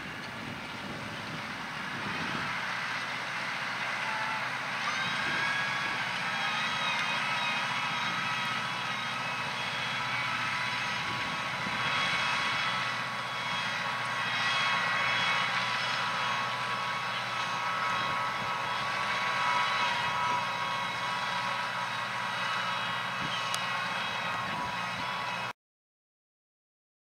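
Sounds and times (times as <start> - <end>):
tractor engine running under load: 0.0 - 25.5
whining tones: 0.0 - 25.5.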